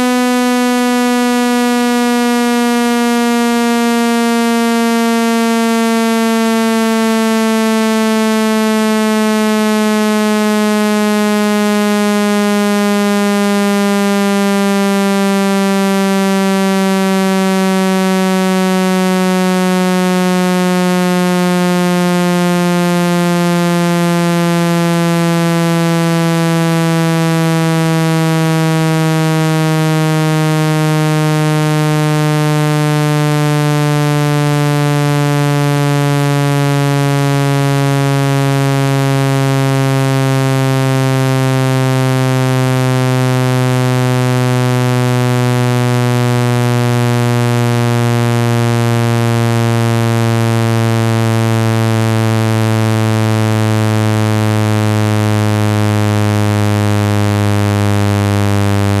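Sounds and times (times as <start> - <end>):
buzzy low falling tone: 0.0 - 59.0.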